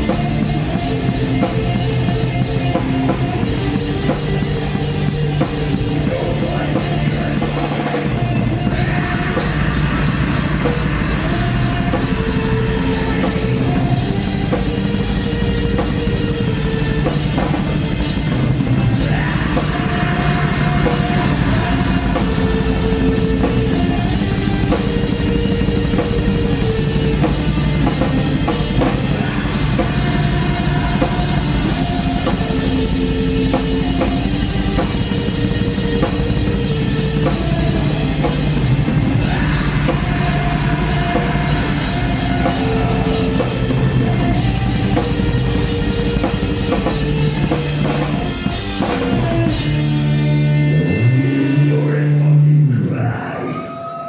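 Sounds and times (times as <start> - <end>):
fast dense drumming: 0.0 - 50.7
sustained guitar notes: 0.0 - 54.0.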